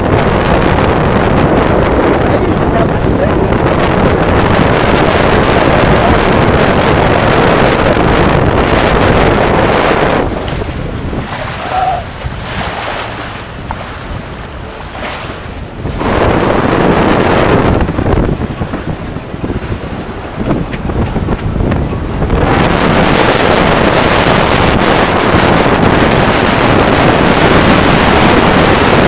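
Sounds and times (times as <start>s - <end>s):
water rushing past hull: 0.0s - 29.0s
wind buffeting microphone: 0.0s - 29.0s.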